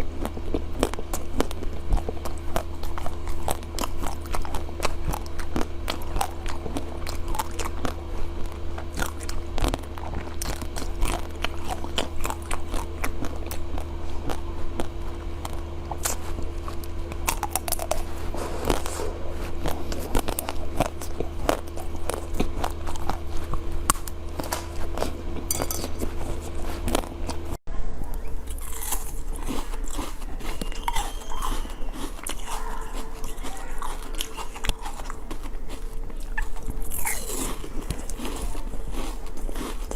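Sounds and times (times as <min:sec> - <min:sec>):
crunchy food chewing: 0:00.0 - 0:39.9
steady low hum: 0:00.0 - 0:39.9.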